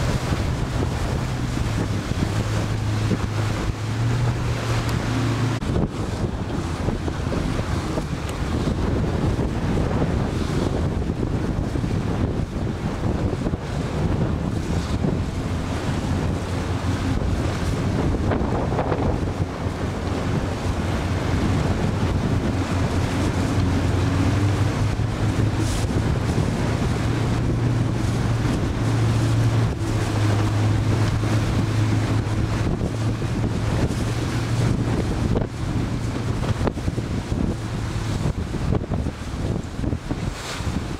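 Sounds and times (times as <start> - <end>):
water washing: 0.0 - 40.9
wind buffeting microphone: 0.0 - 40.9.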